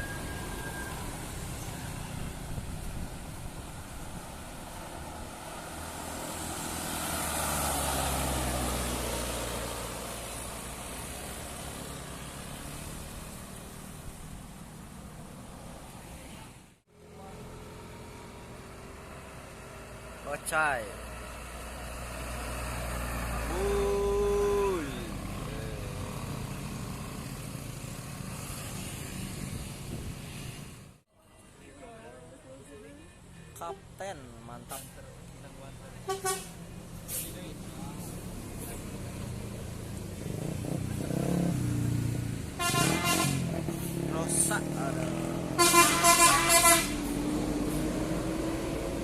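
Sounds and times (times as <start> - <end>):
heavy vehicle passing: 0.0 - 31.0, 34.7 - 49.0
bus engine climbing: 0.0 - 49.0.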